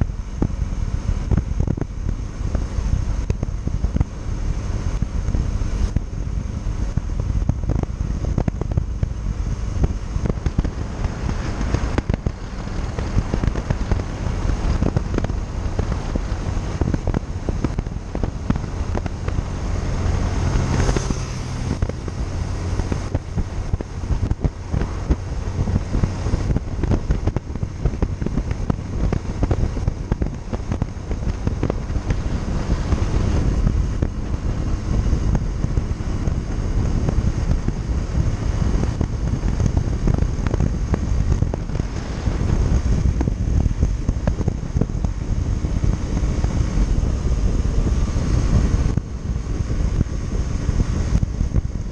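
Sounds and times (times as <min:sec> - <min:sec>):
motorcycle engine running: 0:00.0 - 0:51.9
wind buffeting microphone: 0:00.0 - 0:51.9.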